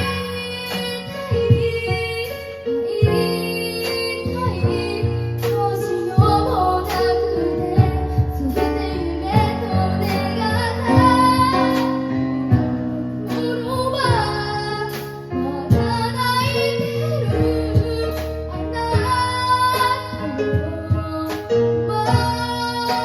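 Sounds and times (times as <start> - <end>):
child singing: 0.0 - 23.0
sustained keyboard chords: 0.0 - 23.0
drum kit hits: 3.0 - 23.0.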